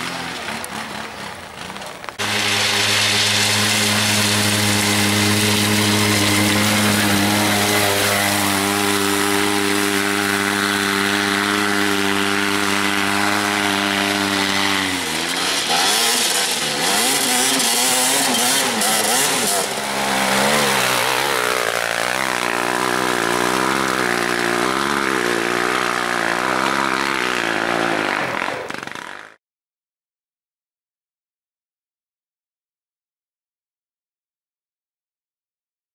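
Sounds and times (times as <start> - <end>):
off-road vehicle engines revving: 0.0 - 29.3.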